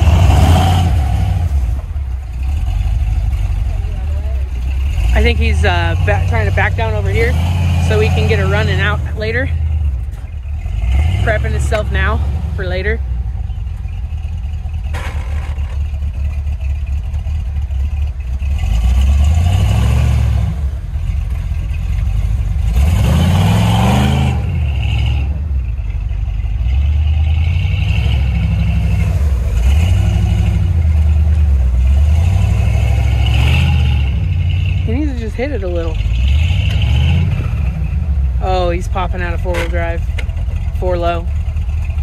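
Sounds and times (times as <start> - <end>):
engine revving: 0.0 - 42.0.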